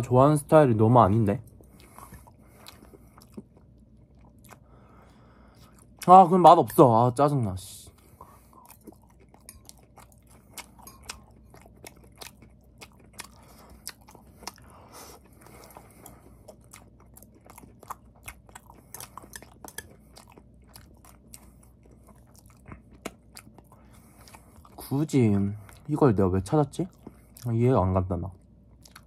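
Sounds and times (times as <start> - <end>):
low room hum: 0.0 - 29.0
person chewing food: 1.4 - 6.8, 7.9 - 26.0, 26.6 - 27.6, 28.3 - 29.0.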